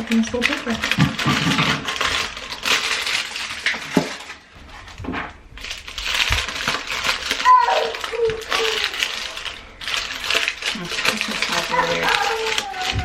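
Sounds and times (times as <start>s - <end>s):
paper wrapping crinkling: 0.0s - 13.0s.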